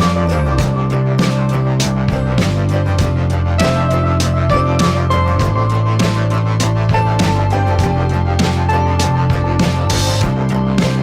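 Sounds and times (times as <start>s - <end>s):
bass and guitar notes: 0.0s - 11.0s
music with steady beat: 0.0s - 11.0s.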